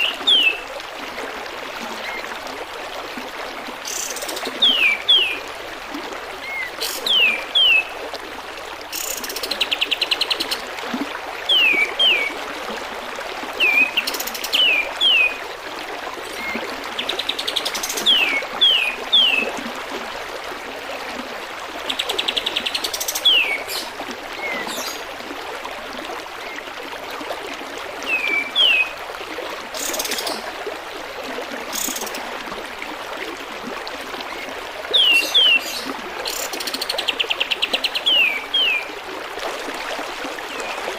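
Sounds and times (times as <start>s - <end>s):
trickling water: 0.0s - 40.9s.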